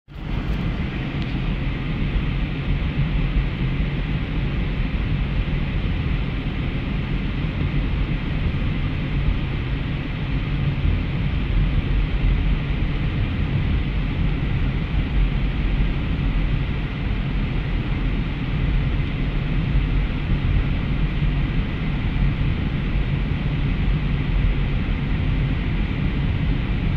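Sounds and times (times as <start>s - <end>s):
car road and engine noise: 0.1s - 26.9s.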